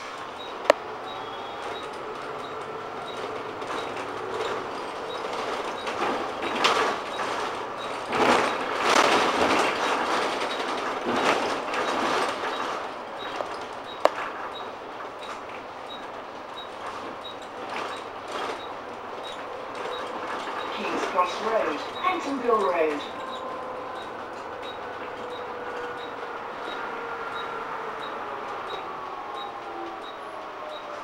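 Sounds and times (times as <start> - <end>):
bus engine and road noise: 0.0 - 31.0.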